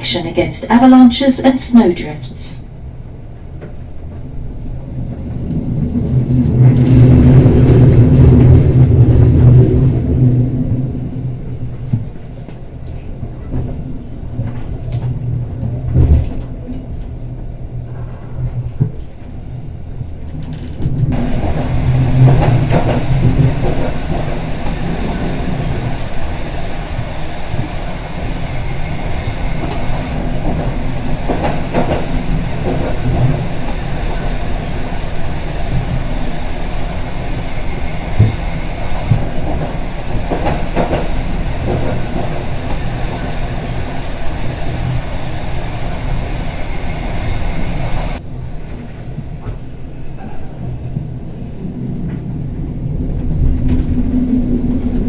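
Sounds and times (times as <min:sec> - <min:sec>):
clicks and knocks of train: 0:00.0 - 0:55.0
train wheels rumbling on rail: 0:00.0 - 0:55.0.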